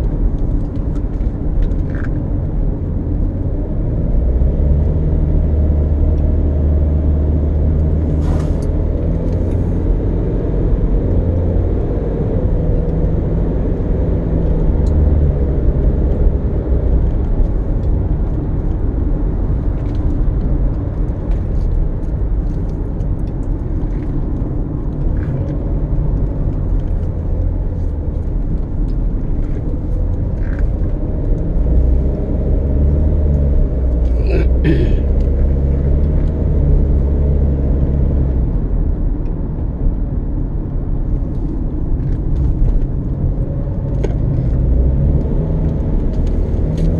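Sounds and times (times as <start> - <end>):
car engine: 0.0 - 46.9
road rumble: 0.0 - 46.9.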